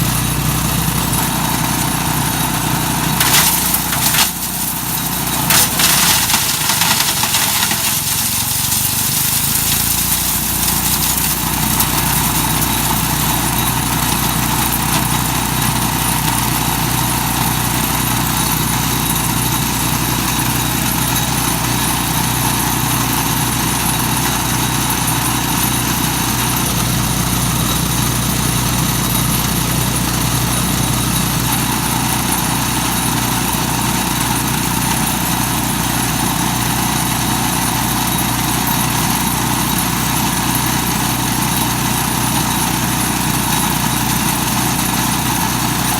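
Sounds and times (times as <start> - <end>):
wood chipper grinding nuts: 0.0 - 45.9.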